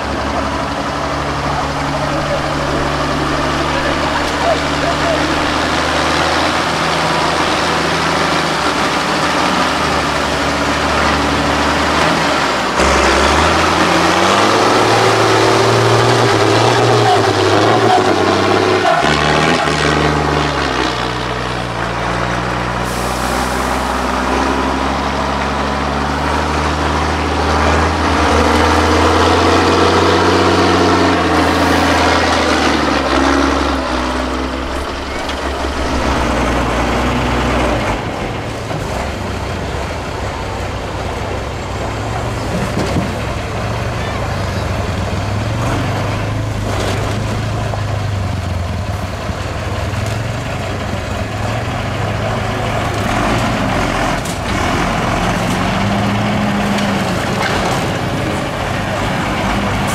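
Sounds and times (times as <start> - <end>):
truck diesel engine revving: 0.0 - 59.9.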